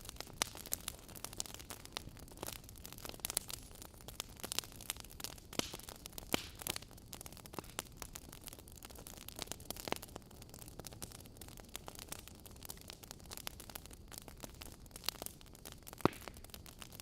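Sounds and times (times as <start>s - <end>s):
logs crackling and popping: 0.0s - 17.0s.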